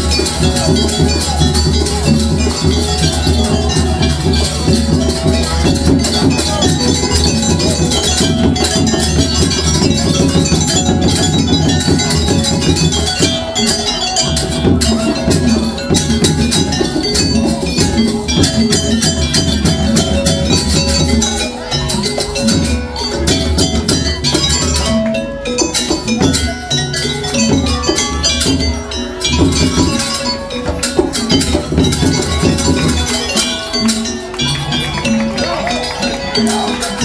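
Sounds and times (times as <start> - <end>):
hand drums: 0.0 - 37.0
held melodic notes: 0.0 - 37.0.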